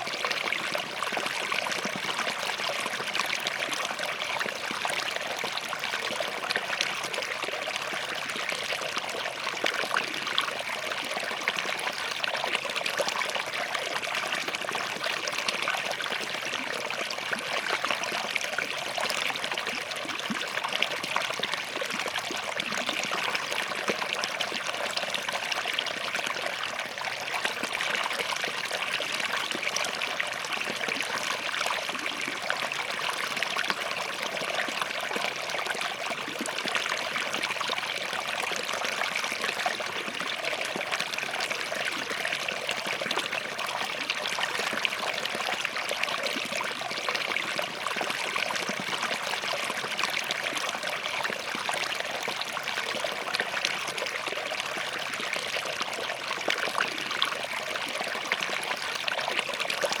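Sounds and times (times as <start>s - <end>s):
stream running over rocks: 0.0s - 60.0s.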